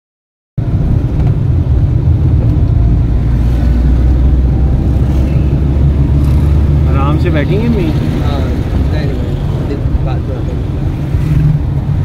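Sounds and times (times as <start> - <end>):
road noise: 0.6 - 12.0
van engine rumble: 0.6 - 12.0.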